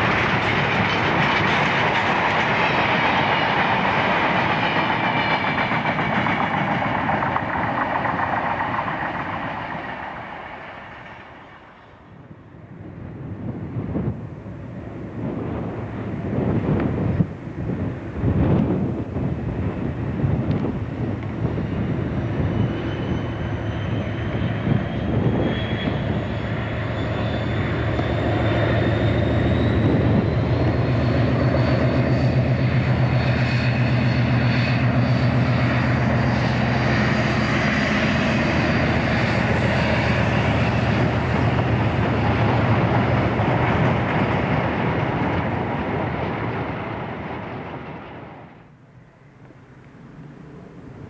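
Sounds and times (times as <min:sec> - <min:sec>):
diesel locomotive engine: 0:00.0 - 0:51.0.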